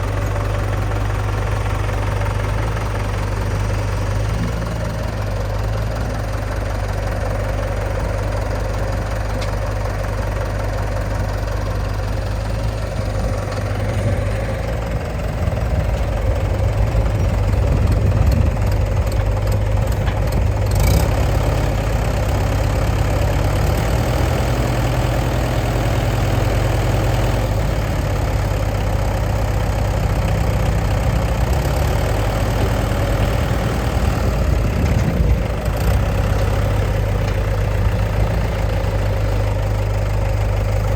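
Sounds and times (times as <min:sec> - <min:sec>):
diesel machinery engines: 0:00.0 - 0:40.9.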